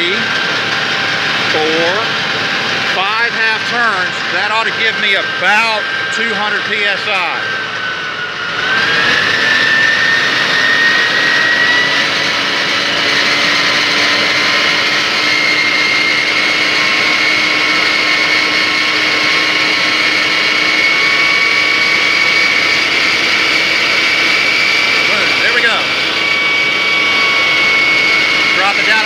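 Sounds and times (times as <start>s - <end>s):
diesel engine and pump whine: 0.0s - 29.0s.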